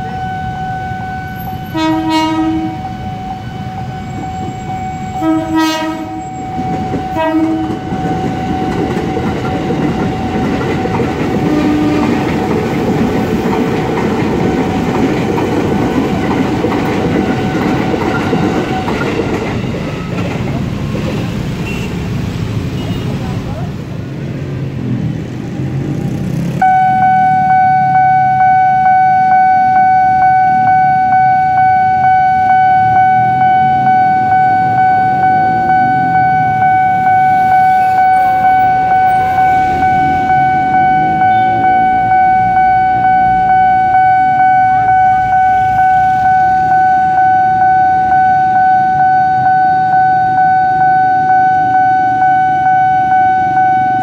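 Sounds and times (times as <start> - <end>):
level crossing alarm tone: 0.0 - 20.4, 26.6 - 54.0
road traffic rumbling: 0.0 - 54.0.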